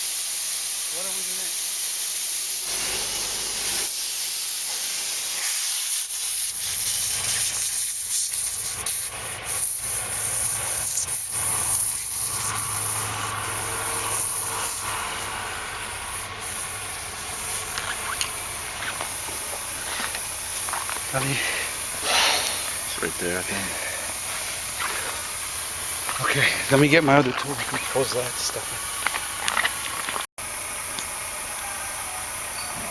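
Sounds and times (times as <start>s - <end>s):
air hissing from tire: 0.0s - 27.1s.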